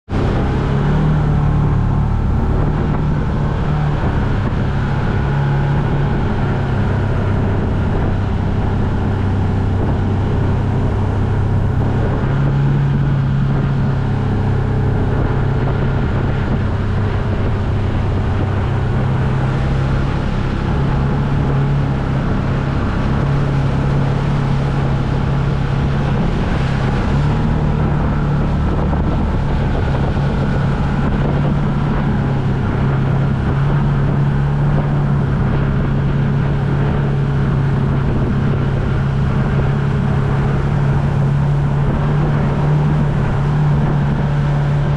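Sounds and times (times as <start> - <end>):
rushing water: 0.0 - 44.9
vehicle engine running: 0.0 - 44.9
wind on microphone: 0.0 - 44.9.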